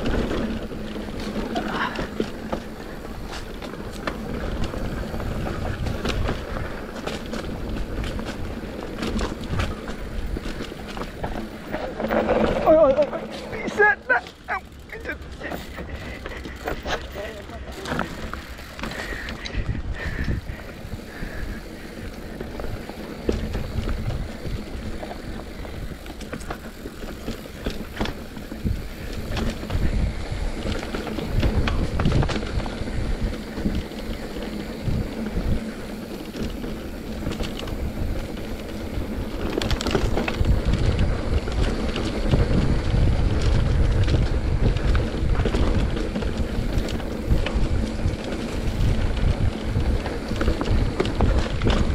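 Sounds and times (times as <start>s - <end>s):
wind on microphone: 0.0s - 12.8s, 18.5s - 26.1s, 27.9s - 51.9s
bike rattling and knocking: 0.0s - 51.9s
bike tyres rumbling over dirt: 0.0s - 51.9s.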